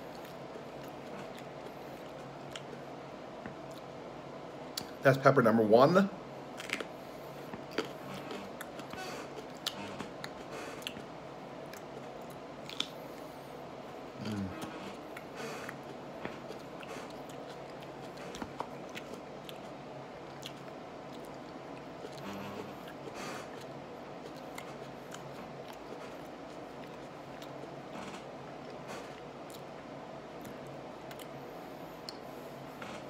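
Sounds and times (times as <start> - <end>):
person chewing with crunching: 0.0 - 4.0, 6.5 - 13.4, 14.1 - 33.0
steady low hum: 0.0 - 33.0.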